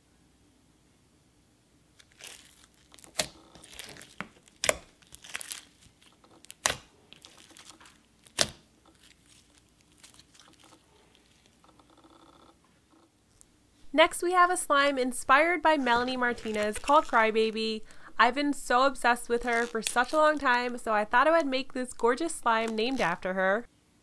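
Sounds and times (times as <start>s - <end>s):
crunchy rustle of slime beads: 1.9s - 12.1s, 14.4s - 23.7s.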